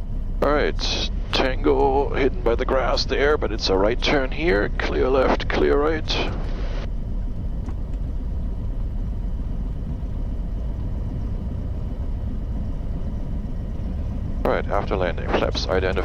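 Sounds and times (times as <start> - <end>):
piston engine low rumble: 0.0 - 16.0.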